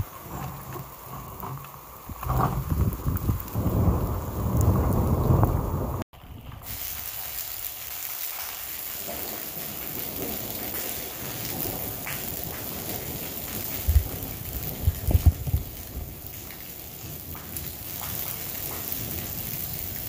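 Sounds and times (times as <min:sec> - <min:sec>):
low thunder rumble: 0:00.0 - 0:07.1, 0:09.0 - 0:20.0
steady rain falling: 0:00.0 - 0:20.0.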